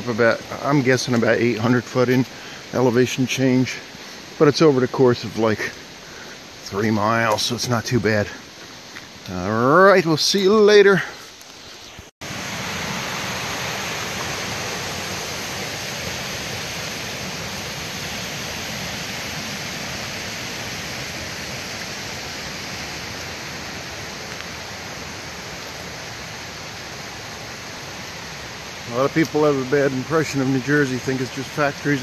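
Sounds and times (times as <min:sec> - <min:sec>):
creek water rushing over stones: 0:00.0 - 0:32.0.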